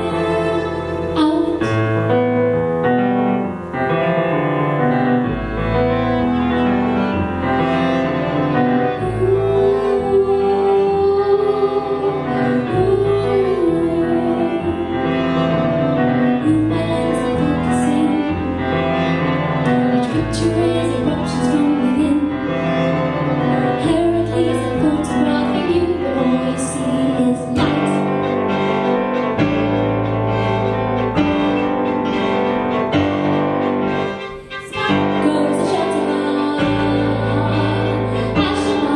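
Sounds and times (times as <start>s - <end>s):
double bass: 0.0s - 34.2s, 35.1s - 38.9s
bowed violin: 0.0s - 38.9s.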